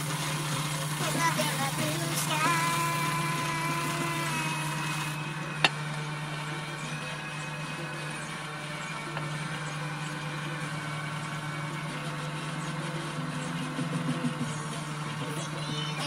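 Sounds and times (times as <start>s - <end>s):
power tool humming and hissing: 0.0s - 16.0s.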